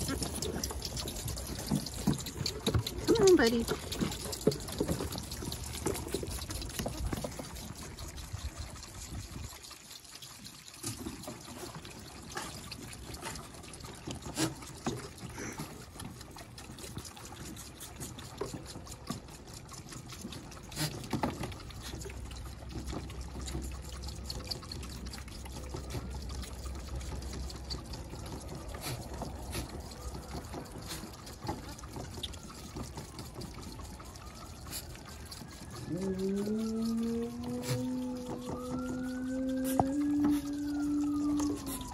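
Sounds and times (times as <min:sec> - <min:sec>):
goat kids sucking milk: 0:00.0 - 0:41.9.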